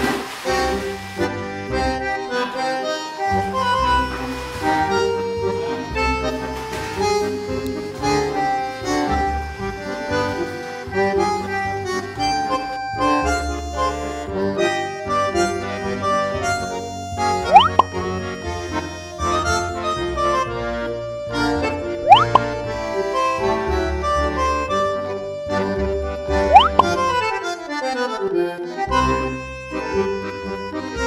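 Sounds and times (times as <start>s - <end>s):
instrumental background music: 0.0s - 31.0s.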